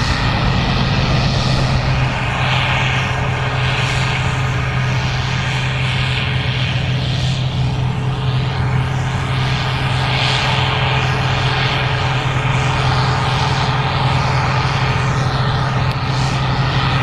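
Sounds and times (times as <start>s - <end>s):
combine harvester engine drone: 0.0s - 17.0s
rushing mechanical noise: 0.0s - 17.0s.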